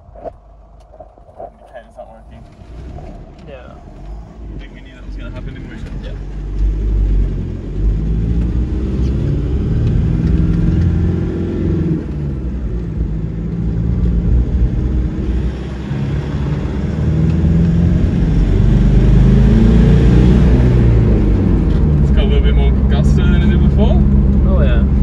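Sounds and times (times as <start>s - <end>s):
diesel engine accelerating: 0.0s - 25.0s.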